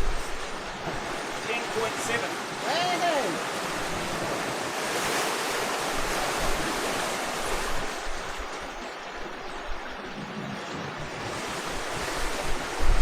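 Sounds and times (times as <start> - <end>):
wind on microphone: 0.0 - 1.2, 3.6 - 13.0
water rushing along hull: 0.0 - 13.0.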